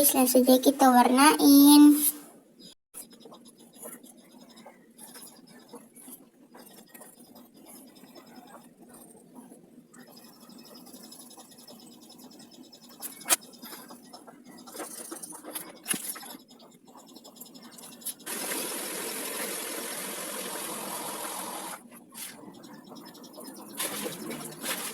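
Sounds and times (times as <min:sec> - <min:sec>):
pencil scratching on paper: 0:03.0 - 0:20.6, 0:21.7 - 0:24.9.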